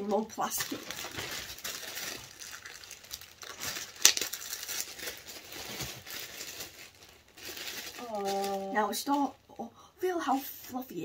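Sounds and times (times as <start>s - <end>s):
plastic bag crinkling: 0.0s - 9.4s
sharp plastic crackle: 0.0s - 9.4s.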